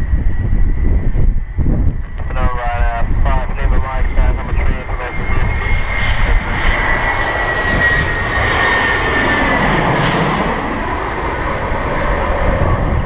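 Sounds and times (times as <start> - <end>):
aircraft engines passing close: 0.0 - 13.0.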